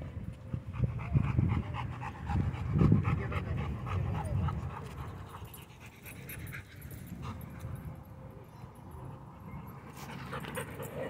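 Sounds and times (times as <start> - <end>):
dogs panting: 0.2 - 11.0.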